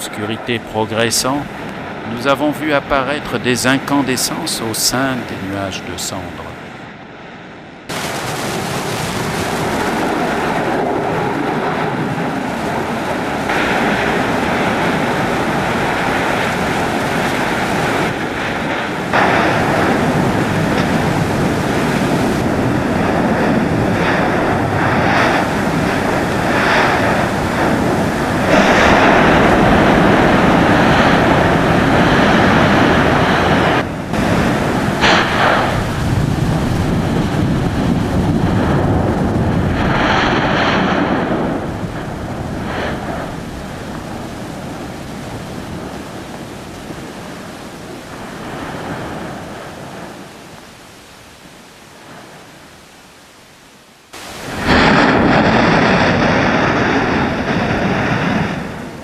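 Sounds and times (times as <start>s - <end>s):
volcano rushing rumble: 0.0s - 53.3s, 54.1s - 59.0s.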